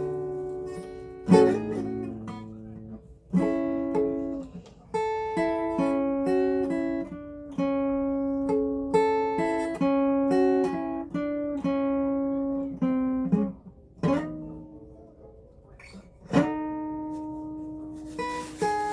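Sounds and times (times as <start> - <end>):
acoustic guitar plucked: 0.0 - 18.9.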